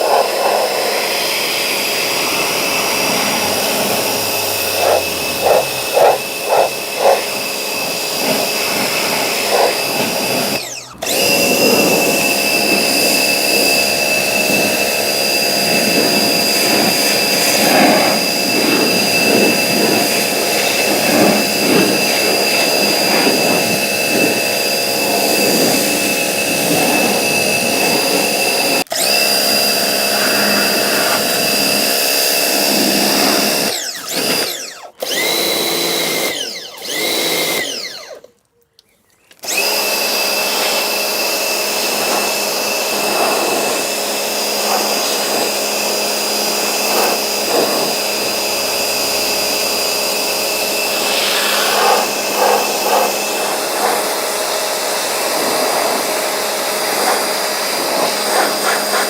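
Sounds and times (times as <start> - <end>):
electric motor whining: 0.0 - 38.2, 39.4 - 59.0.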